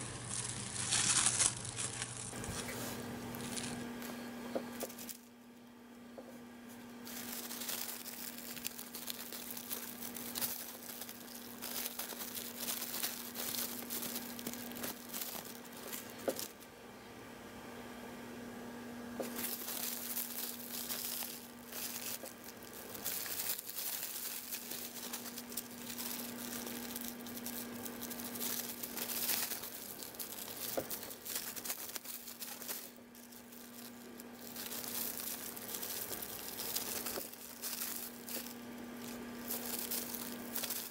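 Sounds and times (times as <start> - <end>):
cling film crinkling: 0.0 - 4.1, 4.7 - 5.3, 6.7 - 16.6, 19.2 - 40.9.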